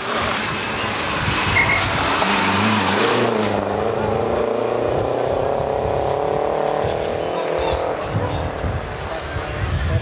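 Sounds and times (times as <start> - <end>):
rally car engine at high revs: 0.0 - 9.6
tyre and road noise: 0.0 - 10.0.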